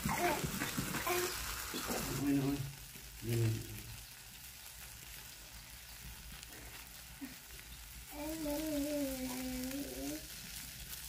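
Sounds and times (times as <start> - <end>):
spices sizzling in a pan: 0.0 - 11.0.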